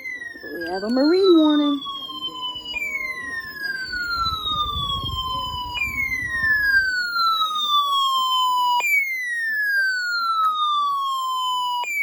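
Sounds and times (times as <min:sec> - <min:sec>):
falling siren warning alarm: 0:00.0 - 0:12.0.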